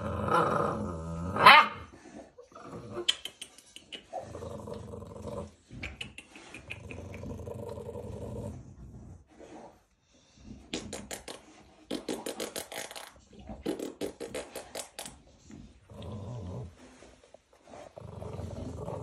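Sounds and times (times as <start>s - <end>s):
puppies growling and grunting: 0.0s - 10.0s, 10.6s - 19.0s.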